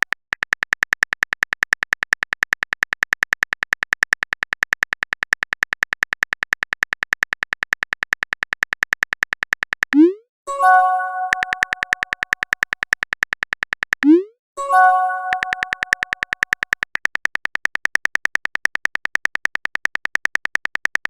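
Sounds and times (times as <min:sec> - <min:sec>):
typing ticks: 0:00.0 - 0:21.0.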